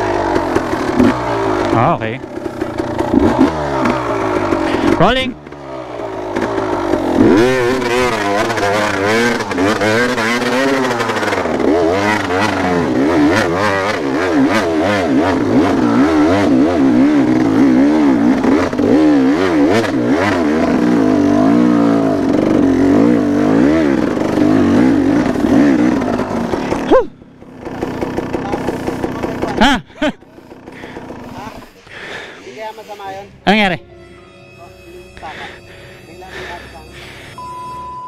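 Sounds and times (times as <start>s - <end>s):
dirt bike engine revving: 0.0s - 33.9s, 35.2s - 38.0s.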